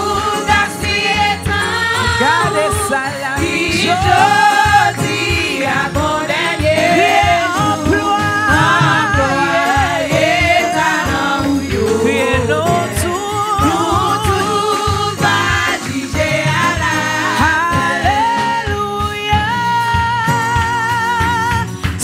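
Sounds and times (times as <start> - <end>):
instrumental accompaniment: 0.0 - 22.0
woman singing gospel song: 0.0 - 22.0.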